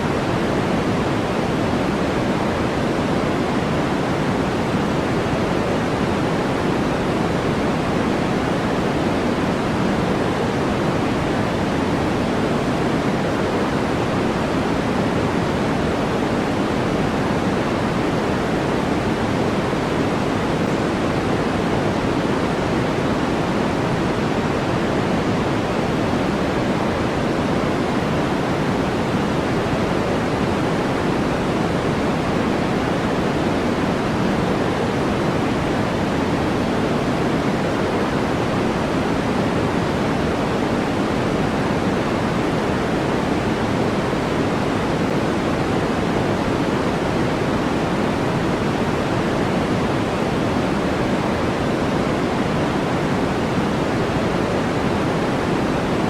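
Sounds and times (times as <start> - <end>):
steady generated noise hiss: 0.0 - 56.0.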